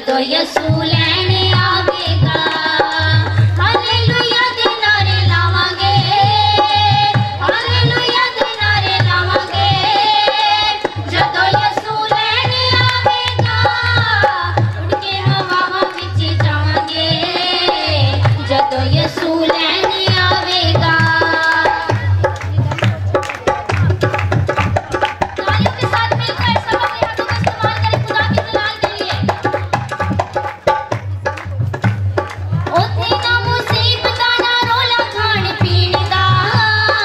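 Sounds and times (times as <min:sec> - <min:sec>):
women and girls singing a hymn: 0:00.0 - 0:22.6, 0:25.4 - 0:29.6, 0:32.6 - 0:37.0
hand drums rhythm: 0:00.2 - 0:37.0.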